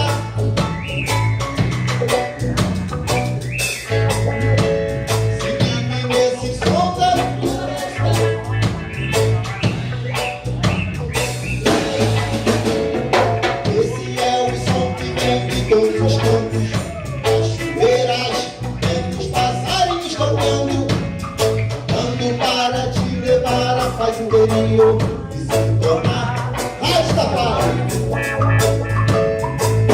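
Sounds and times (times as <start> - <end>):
bass line: 0.0 - 29.9
drum kit: 0.0 - 29.9
wavering melodic lead: 0.0 - 29.9.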